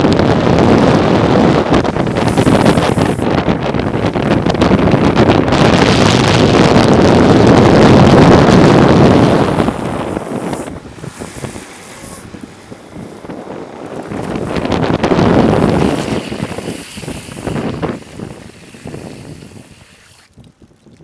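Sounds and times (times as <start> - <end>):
road noise: 0.0 - 20.3
wind rushing over microphone: 0.0 - 21.0.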